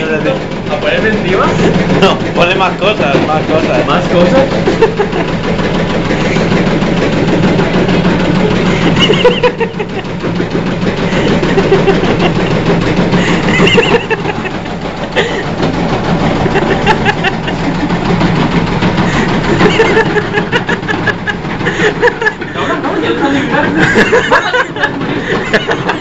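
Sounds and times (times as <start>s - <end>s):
washing machine rattling and knocking: 0.0s - 26.0s
washing machine spinning: 0.0s - 26.0s.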